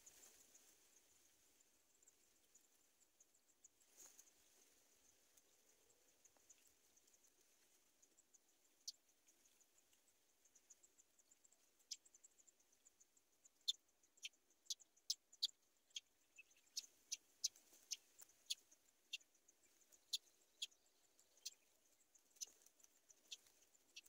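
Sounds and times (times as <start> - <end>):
faint high insect hum: 0.0 - 24.0.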